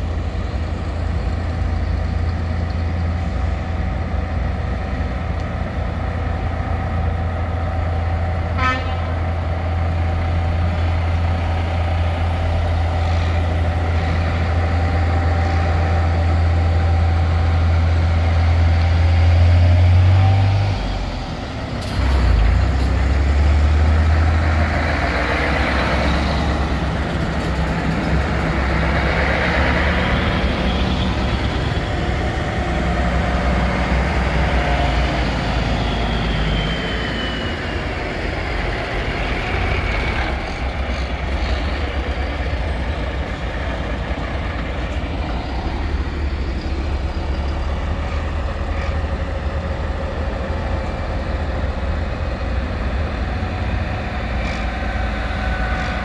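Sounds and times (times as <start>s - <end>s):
diesel truck engines running: 0.0s - 56.0s.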